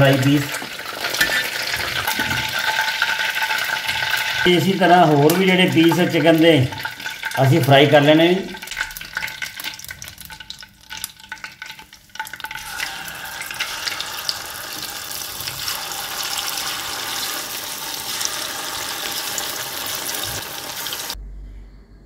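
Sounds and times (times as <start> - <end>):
chicken deep-frying in oil: 0.0 - 21.2.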